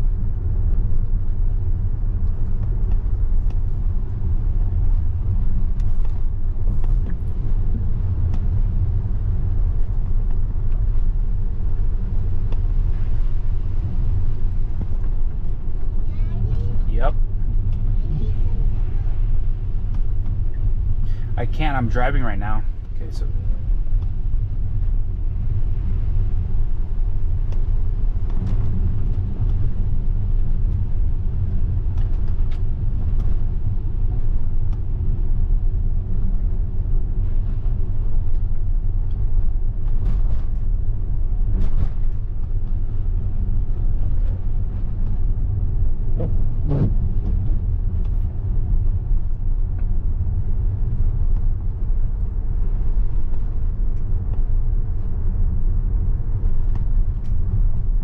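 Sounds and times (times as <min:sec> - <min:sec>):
tyre and road rumble: 0:00.0 - 0:58.0.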